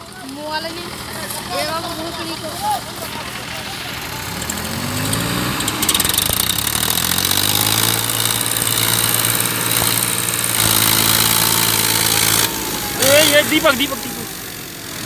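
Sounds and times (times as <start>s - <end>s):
tractor diesel engines revving: 0.0s - 15.0s.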